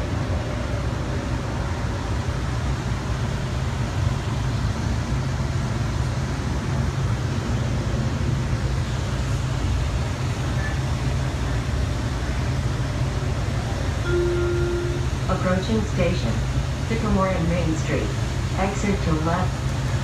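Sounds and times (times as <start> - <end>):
train low rumble: 0.0 - 20.0.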